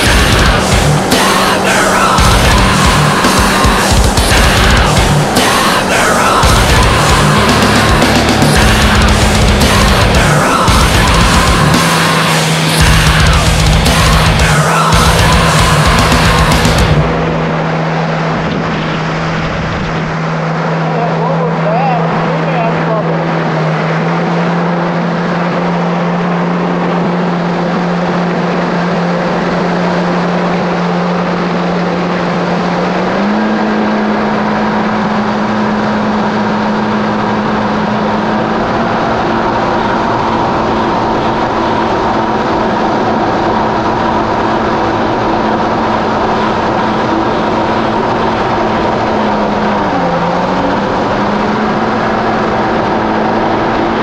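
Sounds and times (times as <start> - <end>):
jet ski engine running: 0.0 - 54.0.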